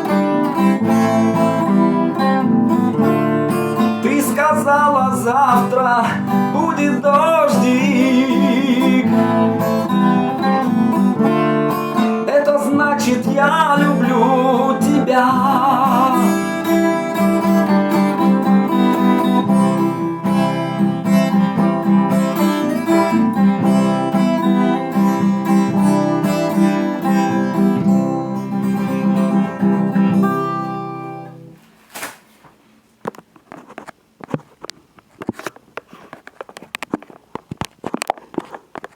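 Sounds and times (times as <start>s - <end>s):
acoustic guitar strumming: 0.0s - 31.7s.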